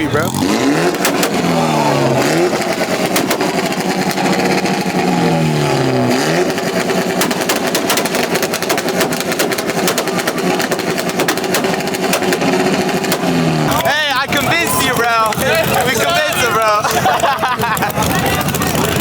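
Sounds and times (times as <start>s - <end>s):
car engine popping and crackling: 0.0s - 19.0s.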